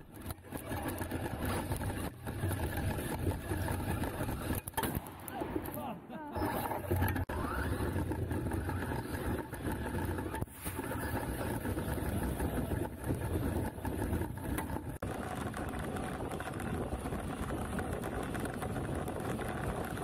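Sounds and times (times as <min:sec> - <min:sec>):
rc truck rumbling rattle: 0:00.0 - 0:05.1, 0:06.4 - 0:20.0.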